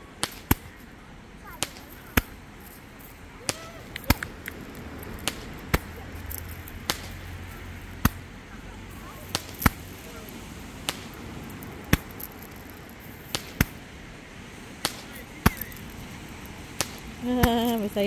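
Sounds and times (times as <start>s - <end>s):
fireworks popping: 0.0s - 18.0s.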